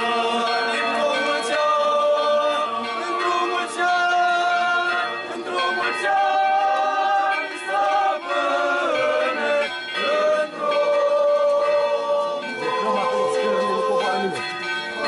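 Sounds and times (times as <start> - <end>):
choir chanting unaccompanied: 0.0 - 15.0.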